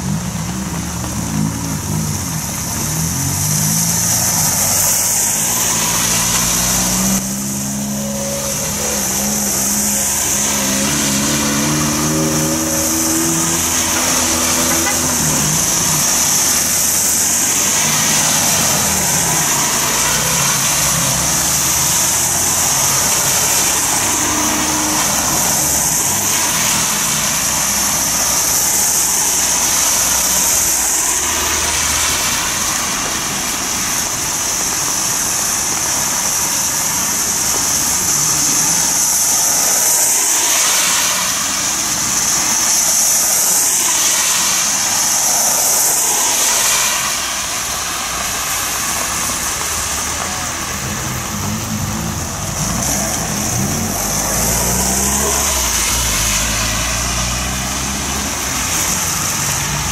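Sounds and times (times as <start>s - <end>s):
cars driving past: 0.0s - 59.9s
steady high hiss: 0.0s - 59.9s
tyres hissing on wet road: 0.0s - 59.9s.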